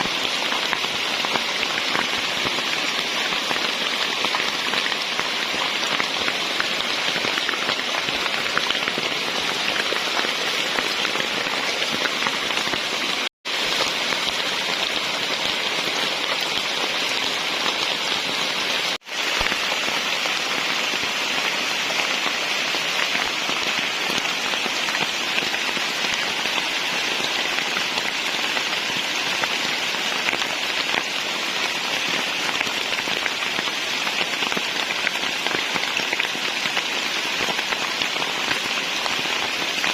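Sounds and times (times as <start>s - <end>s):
heavy rain in a forest: 0.0s - 39.9s.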